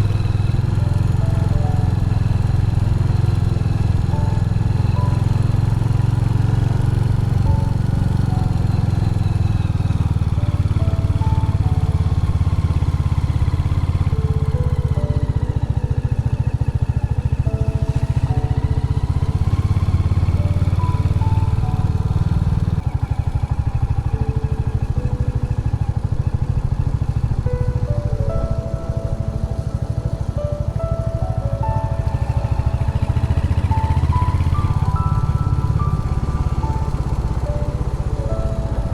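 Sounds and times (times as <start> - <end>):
motorcycle engine running: 0.0 - 38.9
soft background music: 0.0 - 38.9.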